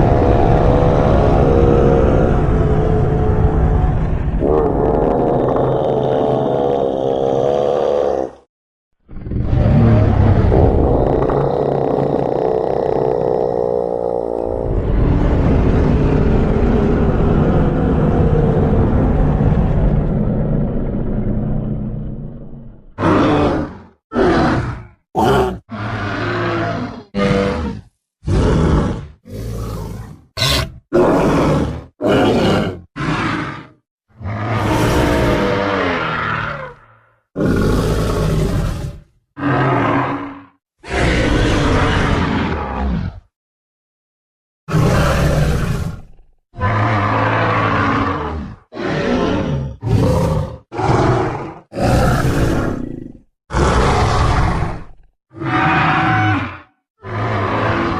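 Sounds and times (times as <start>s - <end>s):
low pitched creature calls: 0.0s - 8.5s, 9.1s - 43.2s, 53.5s - 57.9s.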